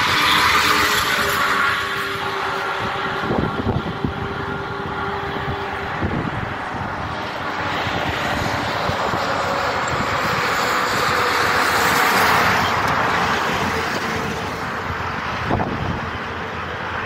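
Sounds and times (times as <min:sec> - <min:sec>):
vehicle passing on highway: 0:00.0 - 0:17.0.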